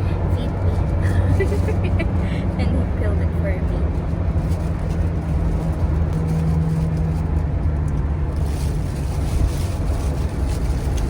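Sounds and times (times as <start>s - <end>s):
vehicle engine and tyres drone: 0.0s - 11.0s.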